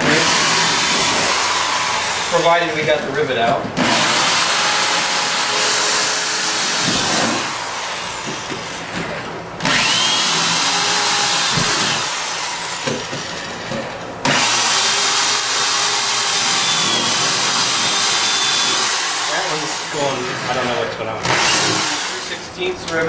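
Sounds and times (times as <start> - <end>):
power drill boring through metal: 0.0 - 2.9, 3.8 - 22.5.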